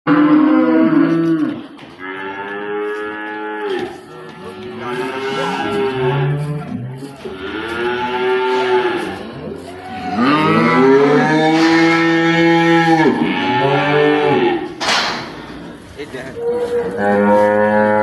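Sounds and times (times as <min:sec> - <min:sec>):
cattle mooing: 0:00.1 - 0:14.8, 0:15.6 - 0:18.0.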